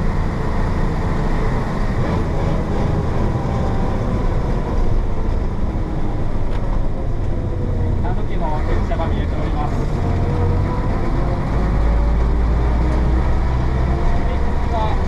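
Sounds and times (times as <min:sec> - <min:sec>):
diesel bus engine running: 0:00.0 - 0:15.0.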